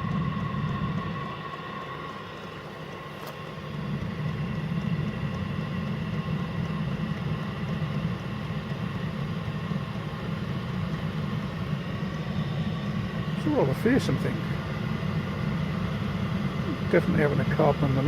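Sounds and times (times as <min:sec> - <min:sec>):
high whine: 0:00.0 - 0:06.9, 0:08.7 - 0:18.0
air heater rumble: 0:00.0 - 0:18.0.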